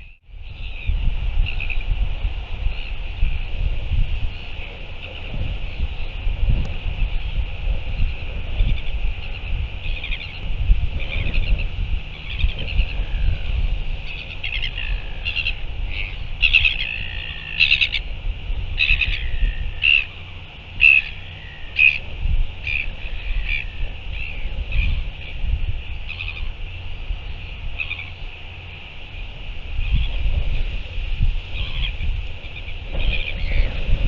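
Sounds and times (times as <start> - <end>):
birds calling: 0.0 - 34.0
low uneven rumble: 0.0 - 34.0.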